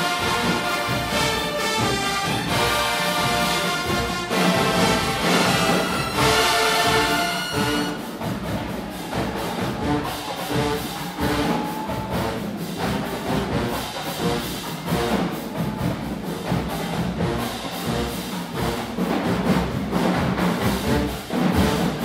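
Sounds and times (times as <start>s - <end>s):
brass playing: 0.0s - 22.0s
drum hits: 0.0s - 22.0s.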